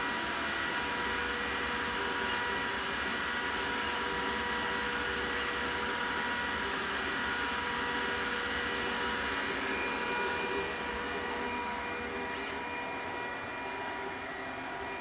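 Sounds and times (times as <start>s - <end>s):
cooling fans whirring: 0.0s - 15.0s
whining tones: 0.6s - 15.0s.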